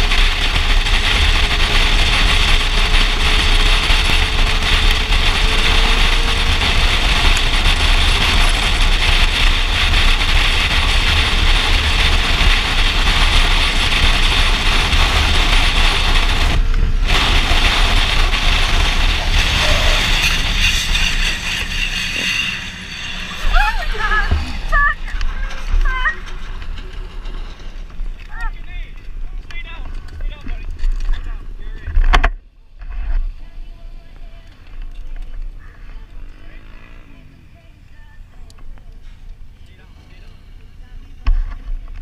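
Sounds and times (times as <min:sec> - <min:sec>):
motorcycle engine running: 0:00.0 - 0:32.4, 0:33.1 - 0:42.0
heavy wind rush: 0:00.0 - 0:36.3.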